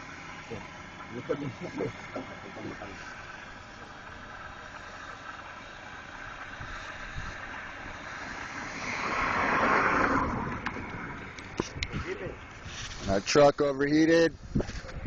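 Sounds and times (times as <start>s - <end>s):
vehicle passing on road: 0.0s - 14.2s.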